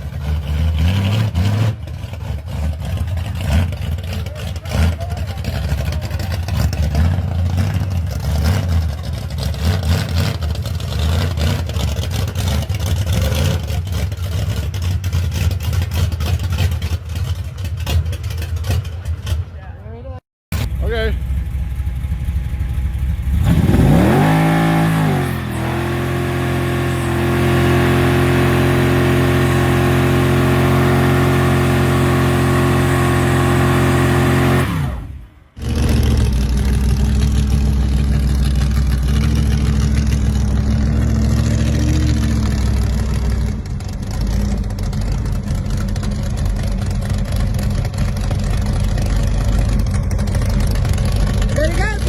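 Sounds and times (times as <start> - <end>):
hot rod engine revving: 0.0 - 19.4, 20.6 - 52.0
engine running steadily: 0.0 - 19.5, 20.6 - 52.0.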